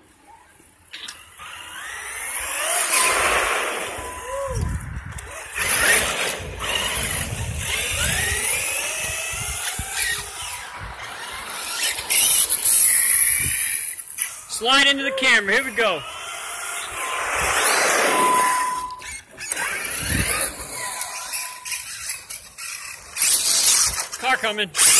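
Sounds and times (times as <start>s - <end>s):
electric motors whining: 0.7s - 24.2s.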